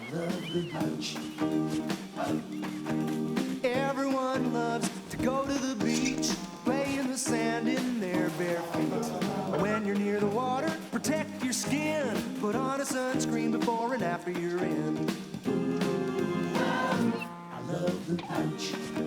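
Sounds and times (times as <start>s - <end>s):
children's song with steady beat: 0.0s - 19.0s.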